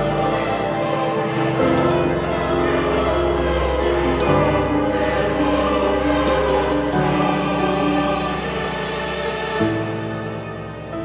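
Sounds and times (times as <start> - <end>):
slow solemn choral music: 0.0 - 11.0.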